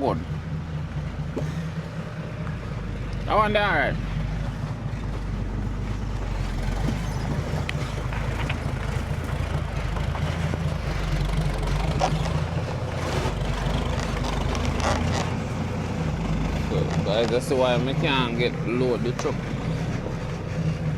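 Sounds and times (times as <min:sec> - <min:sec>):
truck engine droning: 0:00.0 - 0:20.9.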